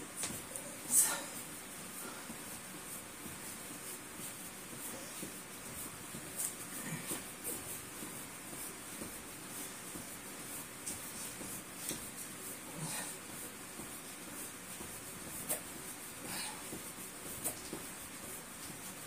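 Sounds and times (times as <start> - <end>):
body and clothing rustling on mat: 0.0 - 19.0.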